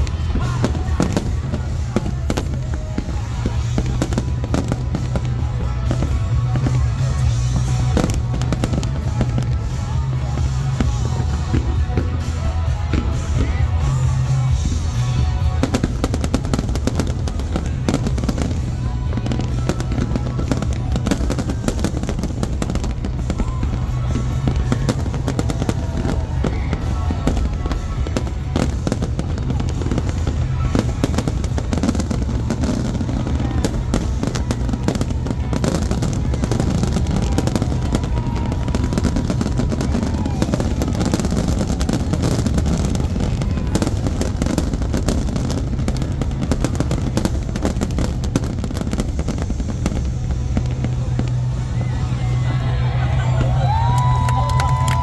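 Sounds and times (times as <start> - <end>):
fireworks bangs and crackling: 0.0 - 55.0
low rumble: 0.0 - 55.0.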